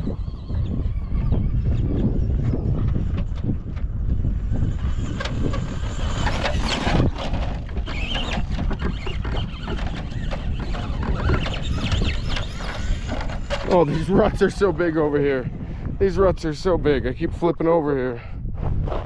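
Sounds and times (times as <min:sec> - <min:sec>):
electric motor whine: 0:00.0 - 0:16.1
wind rumble on microphone: 0:00.0 - 0:19.0.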